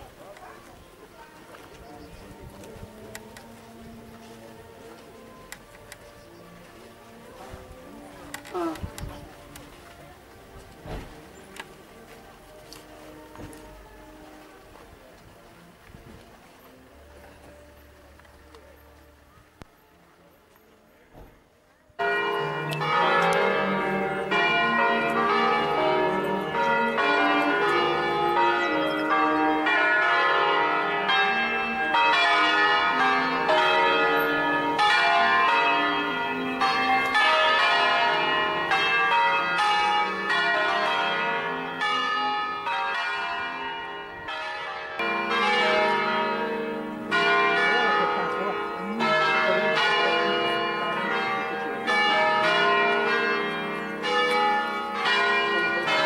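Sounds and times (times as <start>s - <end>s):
church bells pealing: 0.0s - 21.2s, 22.0s - 56.0s.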